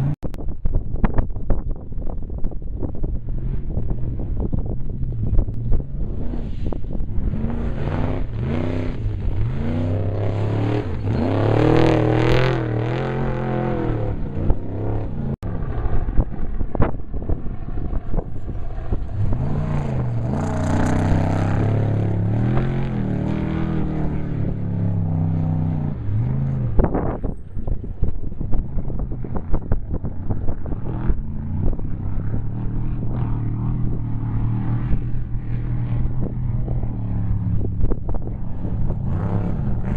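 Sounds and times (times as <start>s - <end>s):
race vehicle engines revving: 0.0s - 0.2s, 2.2s - 39.9s
wind buffeting microphone: 0.0s - 39.9s.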